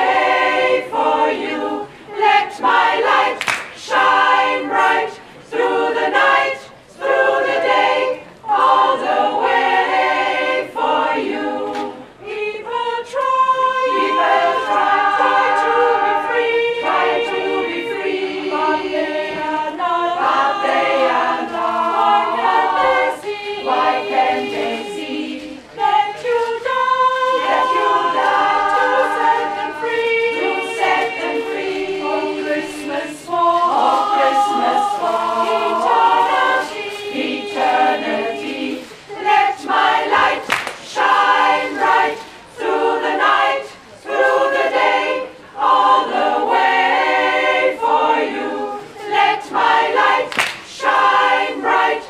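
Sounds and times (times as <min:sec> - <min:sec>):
women's choir singing a cappella: 0:00.0 - 0:52.0.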